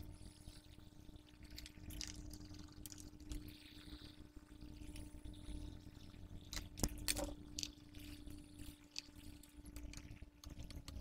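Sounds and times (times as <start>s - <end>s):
hot air blower humming: 0.0s - 1.4s, 2.2s - 11.0s
soft airflow hiss: 0.0s - 9.8s.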